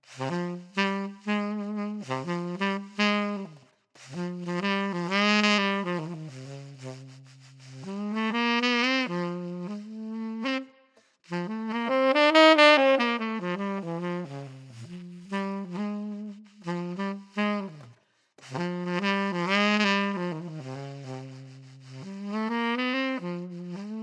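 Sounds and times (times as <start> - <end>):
saxophone jazz solo: 0.0 - 24.0.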